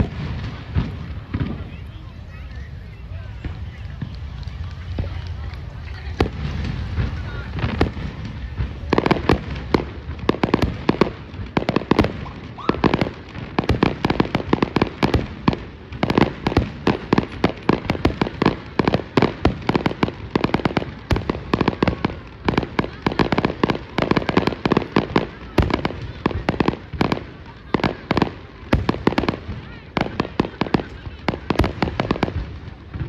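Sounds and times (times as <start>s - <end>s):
fireworks cracks and bangs: 0.0s - 33.0s.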